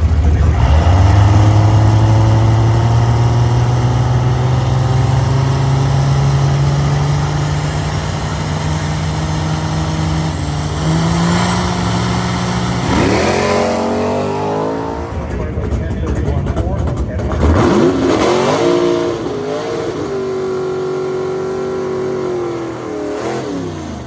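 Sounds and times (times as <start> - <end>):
car engine running under load: 0.0 - 24.0.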